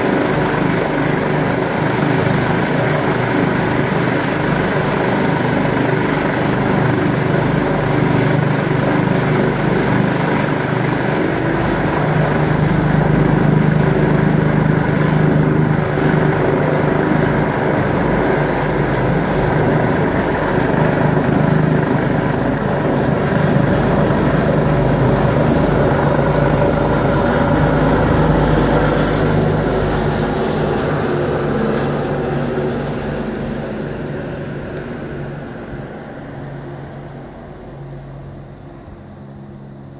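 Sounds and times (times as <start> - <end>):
helicopter rotors humming: 0.0 - 39.9.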